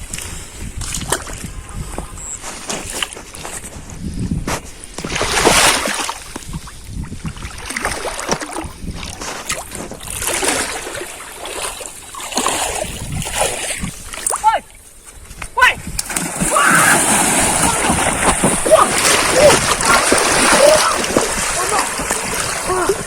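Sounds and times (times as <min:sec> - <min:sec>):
water splashing and swishing: 0:00.0 - 0:23.0
wind rumbling on microphone: 0:00.0 - 0:23.0.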